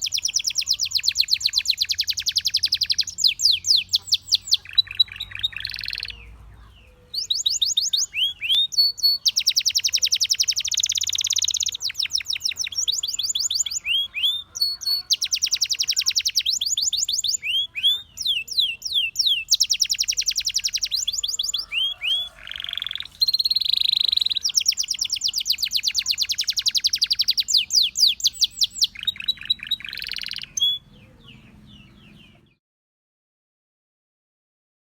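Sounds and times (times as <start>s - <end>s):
canary singing: 0.0s - 32.6s.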